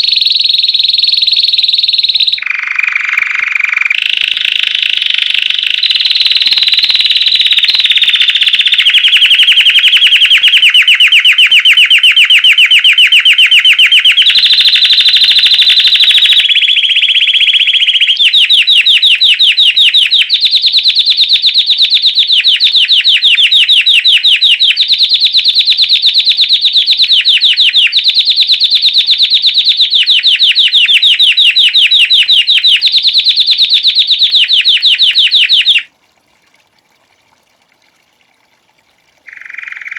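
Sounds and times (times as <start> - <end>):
canary singing in trills: 0.0 - 35.9, 39.3 - 39.9.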